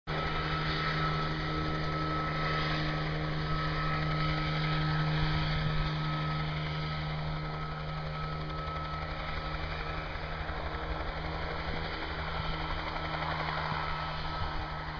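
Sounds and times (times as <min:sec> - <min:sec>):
helicopter droning: 0:00.1 - 0:14.9.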